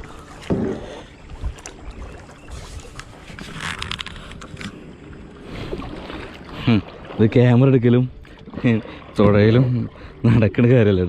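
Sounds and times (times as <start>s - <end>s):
paddle splashing in water: 0.0s - 10.2s.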